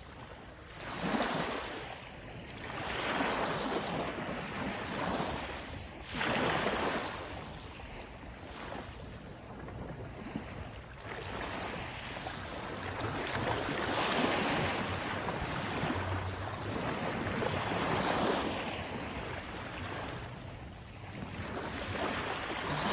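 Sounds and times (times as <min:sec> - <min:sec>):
sea waves washing in: 0:00.0 - 0:22.9.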